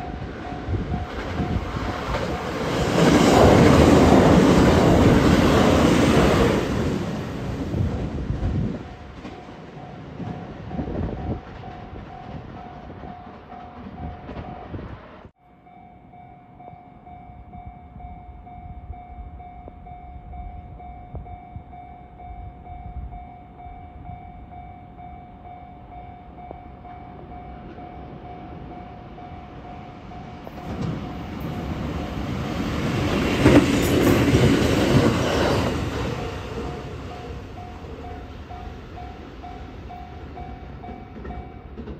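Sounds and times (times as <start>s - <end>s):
train rumble and wheel clatter: 0.0s - 41.9s.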